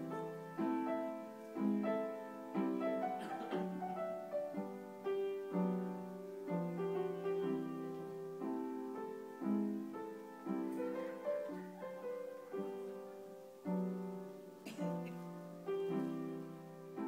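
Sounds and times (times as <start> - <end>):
upright piano played slowly: 0.0 - 17.0.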